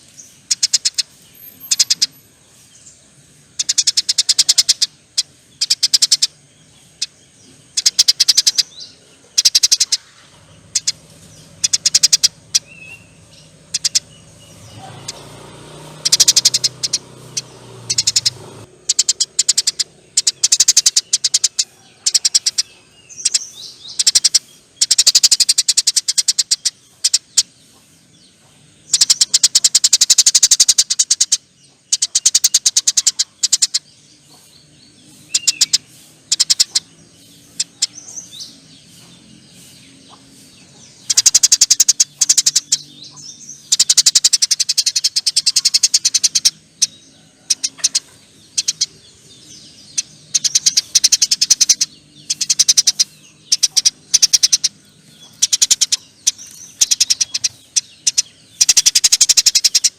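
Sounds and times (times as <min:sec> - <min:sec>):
sparrows chattering: 0:00.0 - 0:59.9.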